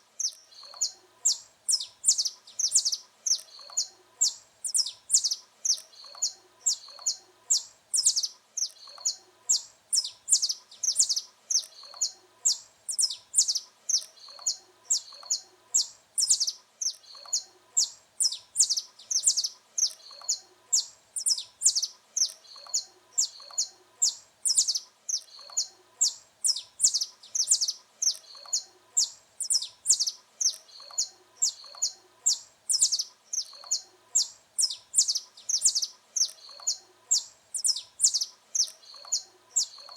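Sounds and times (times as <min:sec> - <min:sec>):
finch singing high chirps: 0:00.2 - 0:39.9.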